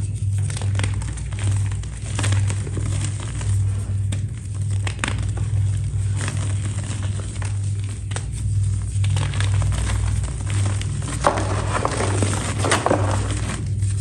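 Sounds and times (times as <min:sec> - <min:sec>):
low hum: 0:00.0 - 0:14.0
brittle material crumbled by hand: 0:00.3 - 0:14.0.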